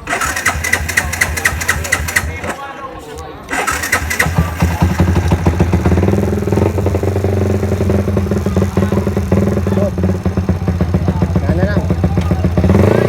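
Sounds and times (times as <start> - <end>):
motorcycle idling: 0.0 - 13.0.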